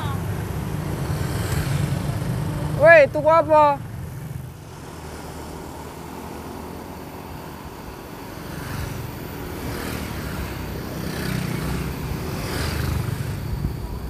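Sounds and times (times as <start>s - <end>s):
street traffic passing: 0.0s - 14.0s.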